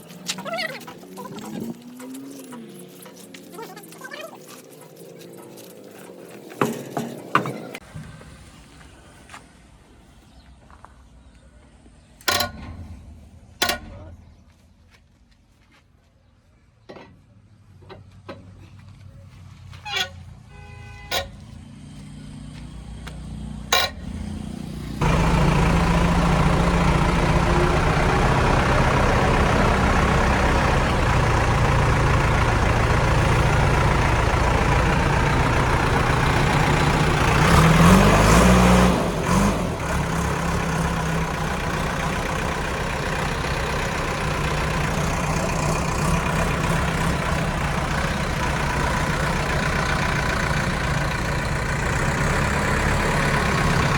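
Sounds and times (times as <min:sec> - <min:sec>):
diesel engine running: 0:00.0 - 0:15.7, 0:17.2 - 0:53.9.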